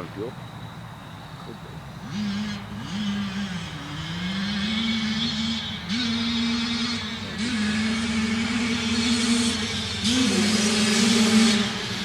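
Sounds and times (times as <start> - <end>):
dirt bike engine revving: 1.7 - 12.0.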